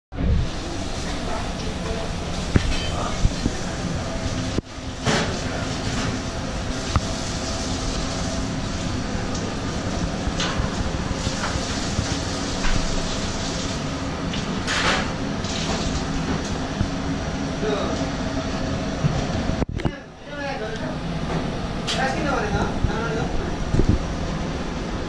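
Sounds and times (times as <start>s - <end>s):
kitchen machinery hum: 0.1s - 25.0s.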